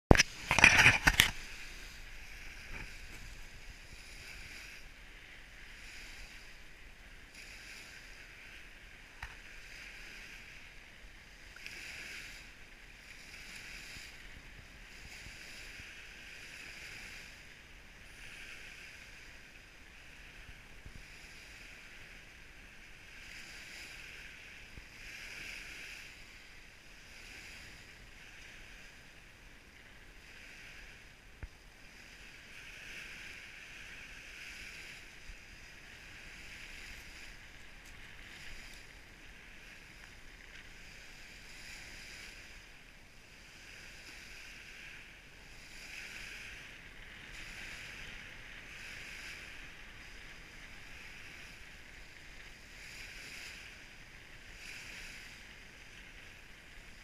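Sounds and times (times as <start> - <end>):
waves washing over pebbles: 0.1 - 57.0.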